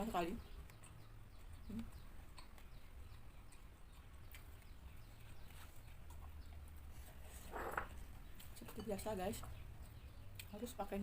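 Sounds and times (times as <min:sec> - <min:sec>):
chewing leaves: 0:00.0 - 0:11.0.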